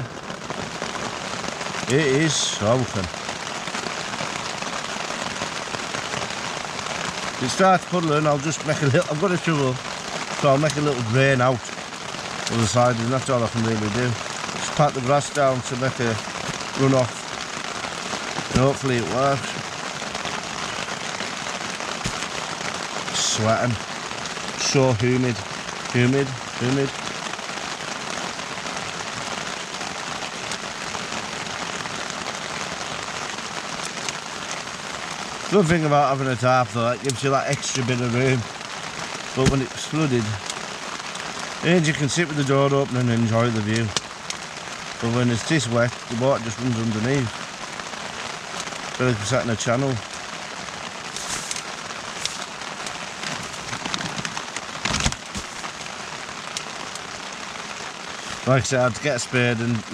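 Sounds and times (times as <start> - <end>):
heavy rain on tent fabric: 0.0 - 59.9.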